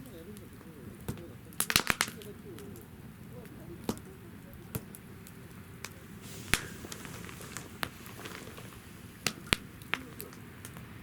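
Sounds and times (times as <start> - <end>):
low rumble of flames: 0.0 - 11.0
sharp pops of burning wood: 0.0 - 11.0
wood fire crackling: 0.0 - 11.0.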